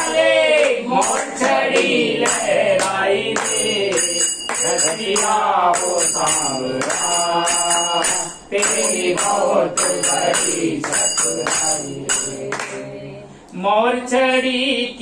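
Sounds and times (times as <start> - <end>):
metallic jingling percussion: 0.0 - 12.8
group of voices singing: 0.0 - 15.0.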